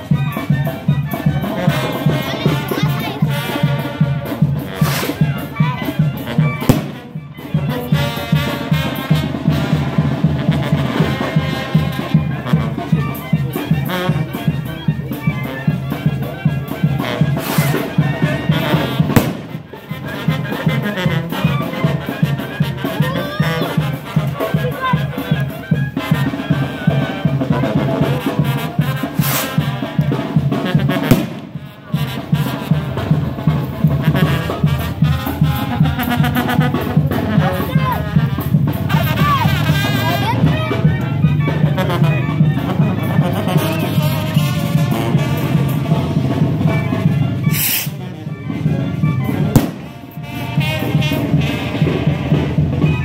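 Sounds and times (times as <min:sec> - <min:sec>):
brass band playing: 0:00.0 - 0:53.0.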